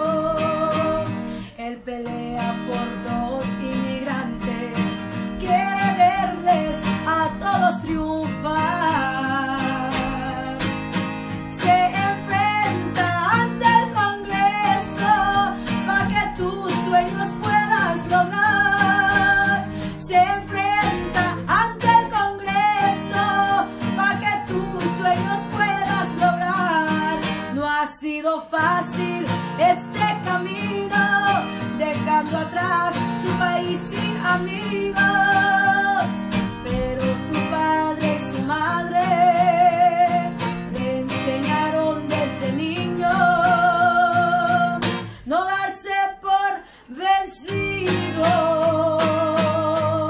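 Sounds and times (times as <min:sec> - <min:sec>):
person singing: 0:00.0 - 0:50.0
strummed acoustic guitar: 0:00.0 - 0:50.0.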